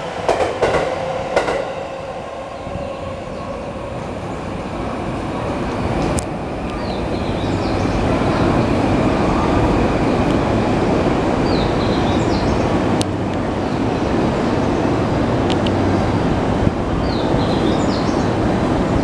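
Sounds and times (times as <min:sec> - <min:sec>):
low rumble of railway noise: 0:00.0 - 0:19.0.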